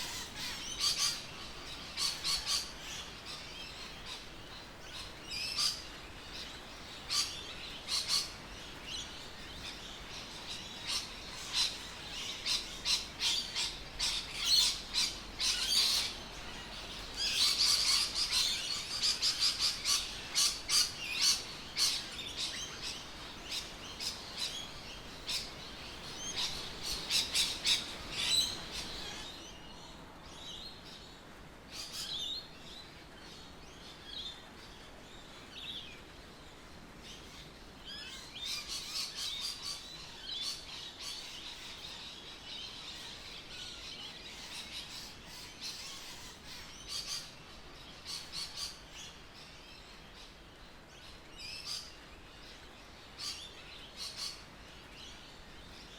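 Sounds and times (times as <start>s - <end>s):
birds chirping and calling: 0.0s - 31.0s, 37.0s - 55.9s.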